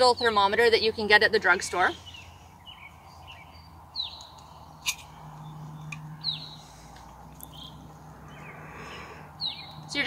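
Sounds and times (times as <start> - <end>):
small bird chirping: 1.6 - 10.0.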